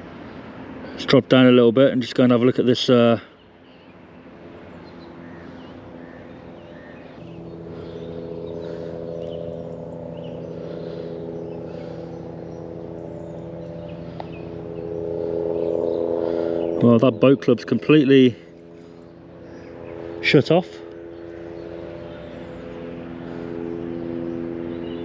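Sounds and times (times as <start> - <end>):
motor hum: 0.0 - 1.1, 3.6 - 25.0.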